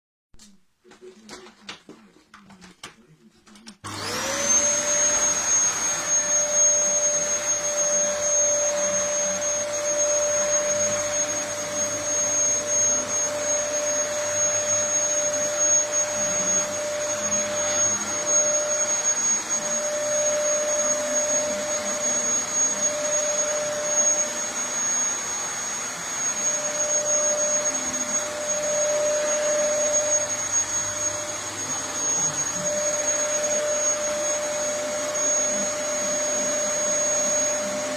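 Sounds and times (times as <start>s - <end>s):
vacuum cleaner running: 3.8s - 37.9s.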